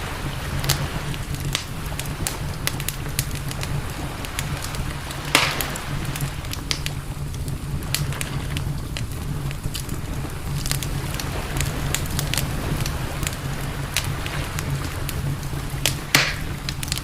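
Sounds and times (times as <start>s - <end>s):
campfire crackling: 0.0s - 17.0s
fire popping: 0.0s - 17.0s
steady low rumble: 0.0s - 17.0s.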